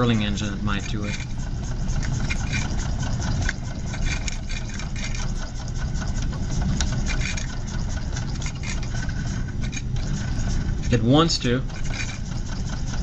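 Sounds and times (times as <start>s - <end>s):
small steam engine running: 0.0s - 13.0s.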